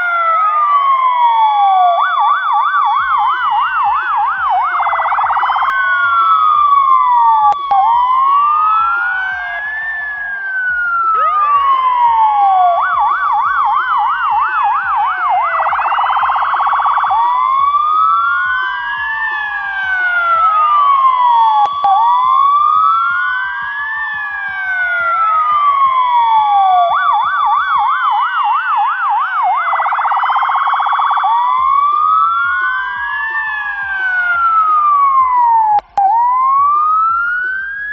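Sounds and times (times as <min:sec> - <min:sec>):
ambulance electronic siren: 0:00.0 - 0:37.9.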